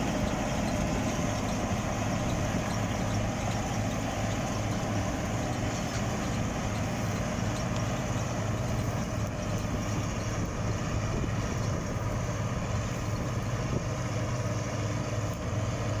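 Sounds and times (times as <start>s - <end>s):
diesel engine drone: 0.0s - 16.0s
threshing machinery hum: 0.0s - 16.0s.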